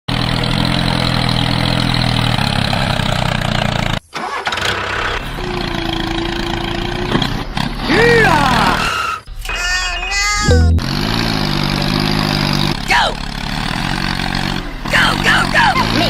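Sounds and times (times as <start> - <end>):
engine running: 0.1 - 7.8, 10.4 - 16.0
engine humming: 0.1 - 16.0.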